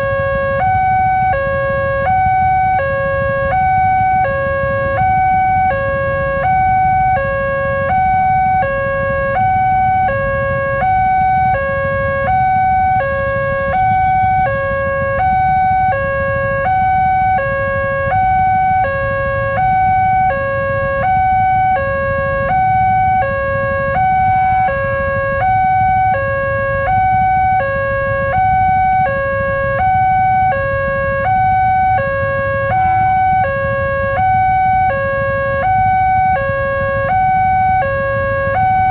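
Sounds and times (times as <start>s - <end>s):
low traffic rumble: 0.0s - 38.9s
two-tone warning siren: 0.0s - 38.9s.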